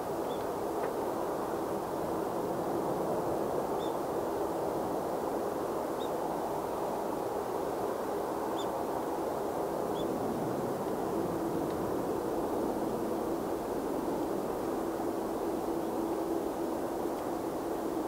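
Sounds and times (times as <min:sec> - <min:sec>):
distant jet engines: 0:00.0 - 0:18.0.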